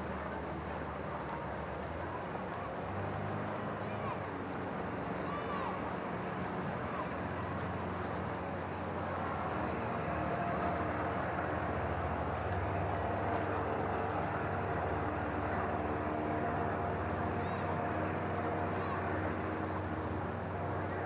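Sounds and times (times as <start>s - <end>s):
outdoor noise: 0.0s - 21.0s.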